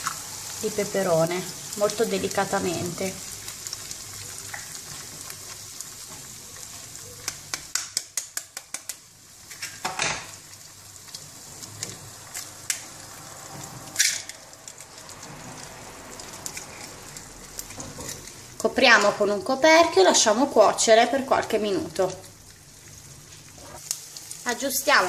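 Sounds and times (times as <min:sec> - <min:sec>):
hissing burst of hot oil: 0:00.0 - 0:07.7, 0:09.0 - 0:18.7, 0:22.3 - 0:25.0
eggs sizzling in oil: 0:00.0 - 0:25.0
oil crackling and popping: 0:00.0 - 0:25.0.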